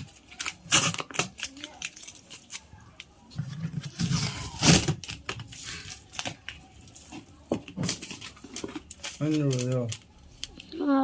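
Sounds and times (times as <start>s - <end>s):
wrapping crinkling and tearing: 0.0s - 11.0s.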